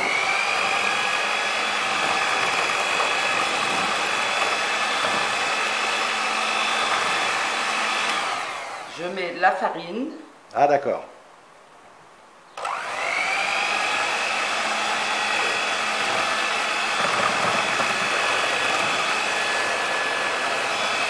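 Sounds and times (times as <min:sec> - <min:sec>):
electric hand mixer whine: 0:00.0 - 0:09.1, 0:12.6 - 0:21.0.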